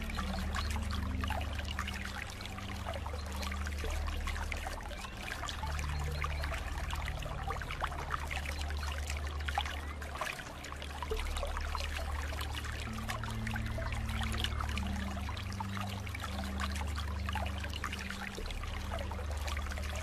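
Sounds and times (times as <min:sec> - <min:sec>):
low steady rumble: 0:00.0 - 0:20.0
raindrops splashing: 0:00.0 - 0:20.0.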